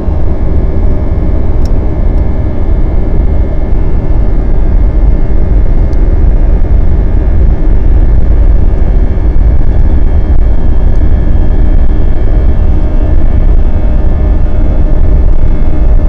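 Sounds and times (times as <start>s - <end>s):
faint steady whine: 0.0s - 16.0s
jet engine at high thrust: 0.0s - 16.0s
low rumble of wheels on runway: 0.0s - 16.0s.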